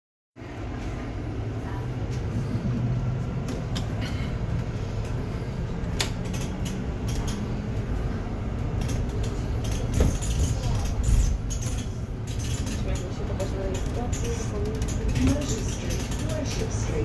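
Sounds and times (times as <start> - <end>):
bus engine drone: 0.4 - 17.0
road noise: 0.4 - 17.0.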